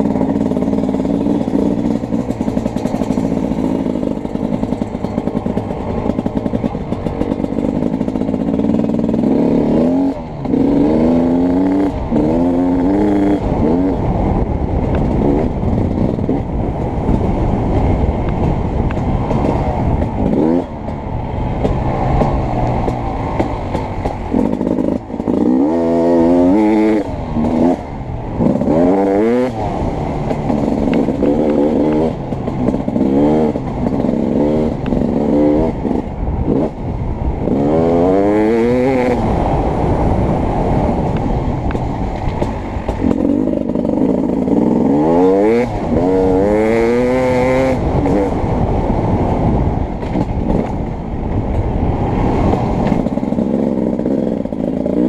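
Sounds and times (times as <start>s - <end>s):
dirt bike engine revving: 0.0s - 50.8s, 52.0s - 55.0s
rumble and clatter: 0.0s - 55.0s.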